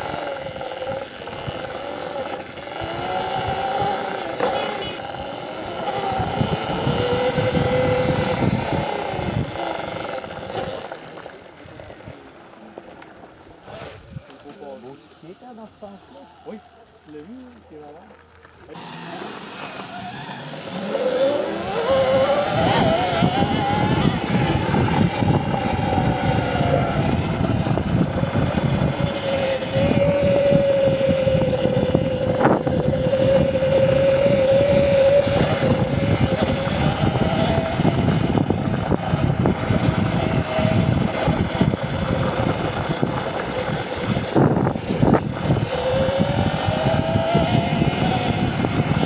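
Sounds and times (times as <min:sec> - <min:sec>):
electric motor whine: 0:00.0 - 0:13.0, 0:16.2 - 0:49.0
rough rushing riding noise: 0:00.0 - 0:17.1, 0:18.4 - 0:49.0.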